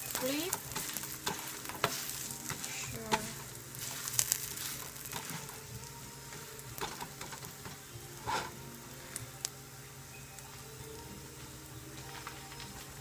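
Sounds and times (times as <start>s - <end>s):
pancake sizzling in frying pan: 0.0s - 13.0s
small oil crackles: 0.0s - 13.0s.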